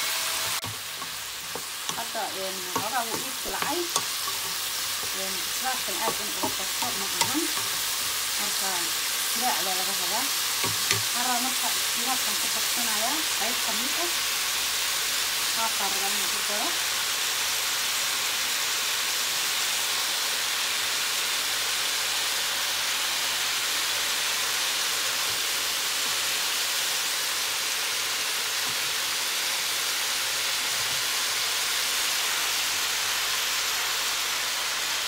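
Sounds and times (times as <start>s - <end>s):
vegetables sizzling in a frying pan: 0.0s - 35.0s.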